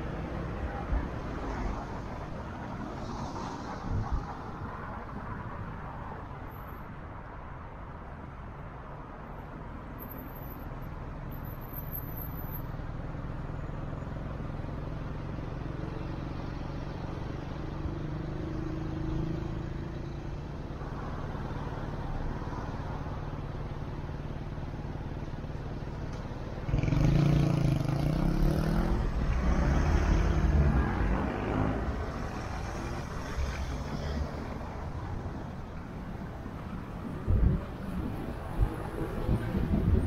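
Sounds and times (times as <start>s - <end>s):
car engine and tyre noise: 0.0s - 40.0s.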